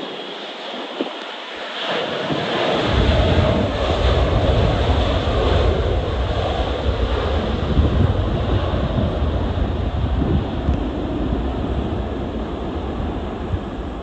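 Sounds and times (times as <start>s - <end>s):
jet engines rumbling: 0.0s - 14.0s
wind buffeting microphone: 0.0s - 14.0s.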